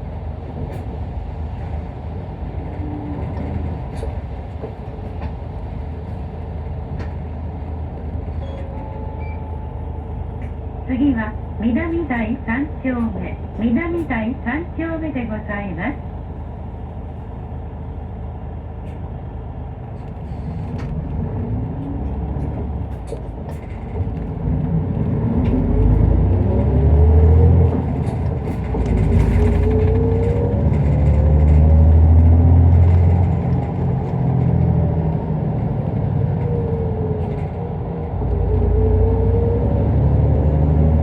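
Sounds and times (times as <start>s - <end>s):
bus diesel engine accelerating: 0.0s - 41.0s.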